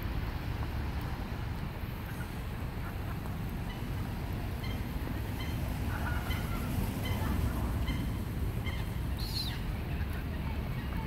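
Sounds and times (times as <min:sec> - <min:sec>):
gulls calling: 0:02.0 - 0:11.0.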